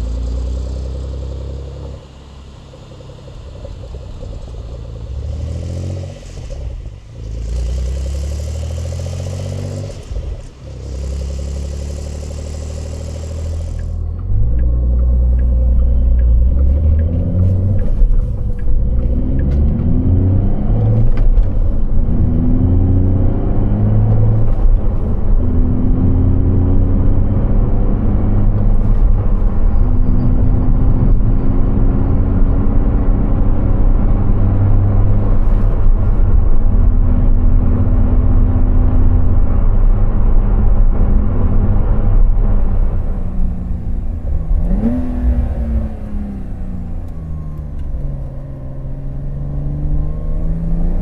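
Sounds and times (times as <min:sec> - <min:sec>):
car engine heard from cabin: 0:00.0 - 0:51.0.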